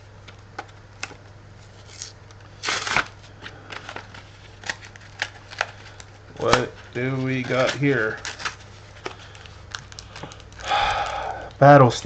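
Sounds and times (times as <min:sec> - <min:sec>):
plastic and card packaging crinkling: 0:00.6 - 0:12.0.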